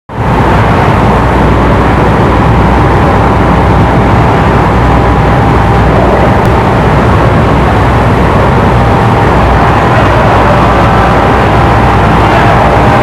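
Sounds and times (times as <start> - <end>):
industrial fan rushing: 0.1 - 13.0
steady high whine: 0.1 - 13.0.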